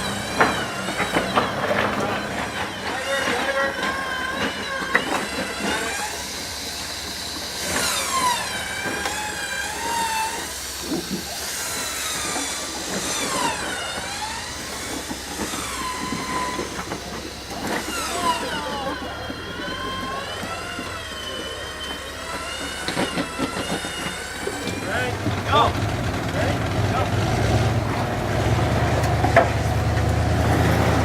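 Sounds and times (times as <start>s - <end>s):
electric winch whining under load: 0.0s - 31.0s.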